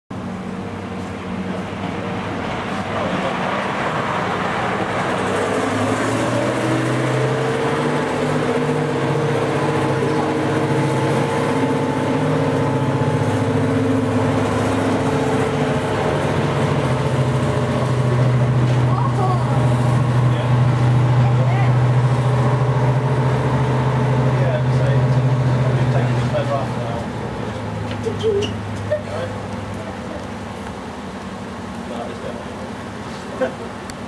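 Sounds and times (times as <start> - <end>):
diesel locomotive engines running: 0.1 - 34.0.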